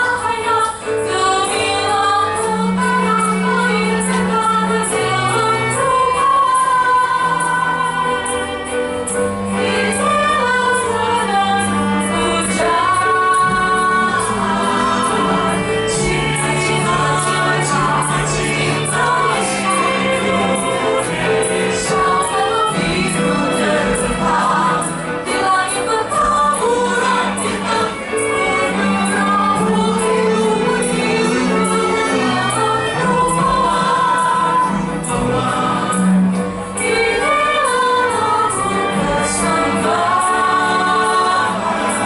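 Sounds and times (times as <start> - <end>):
mixed choir singing in harmony: 0.0 - 42.0.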